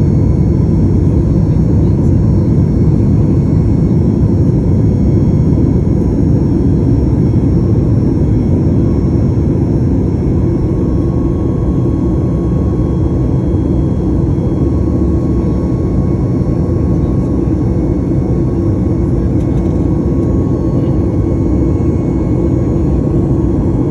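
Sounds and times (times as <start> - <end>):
jet engines rumbling: 0.0 - 23.9.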